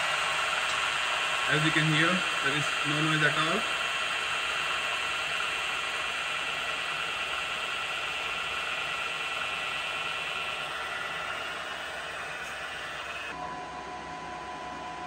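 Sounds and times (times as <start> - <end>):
milling machine spindle whirring: 0.0 - 13.4.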